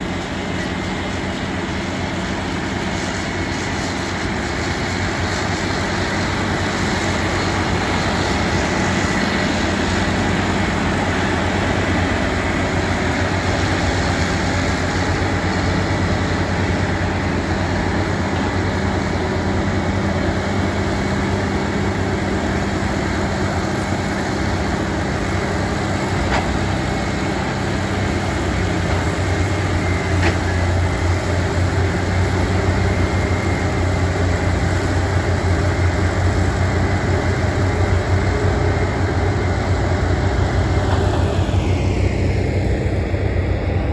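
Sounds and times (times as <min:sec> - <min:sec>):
heavy machinery diesel engine running: 0:00.0 - 0:43.9.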